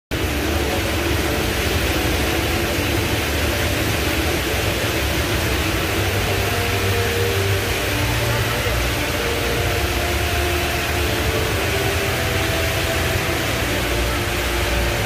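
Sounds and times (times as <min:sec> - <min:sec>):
indoor waterfall pouring: 0:00.1 - 0:15.0.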